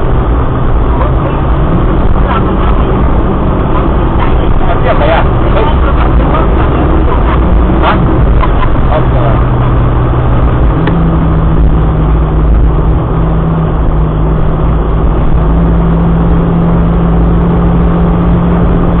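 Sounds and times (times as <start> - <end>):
car engine running: 0.0 - 19.0
low road rumble: 0.0 - 19.0.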